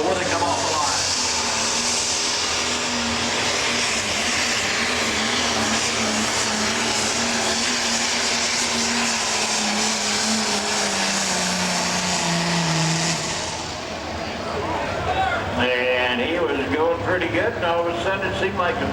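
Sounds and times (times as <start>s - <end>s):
diesel engine running under load: 0.0s - 18.9s.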